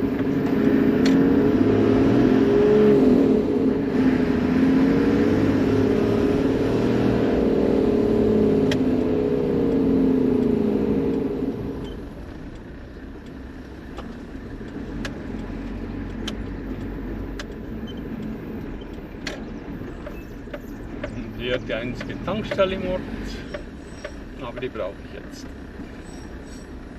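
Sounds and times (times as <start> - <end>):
diesel engine driving: 0.0 - 26.9.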